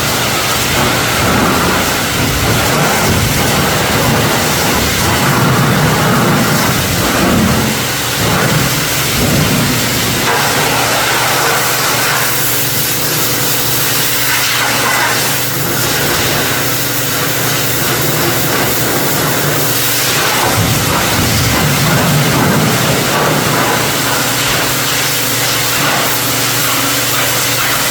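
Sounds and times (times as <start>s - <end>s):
pressure washer jet hissing: 0.0s - 27.9s.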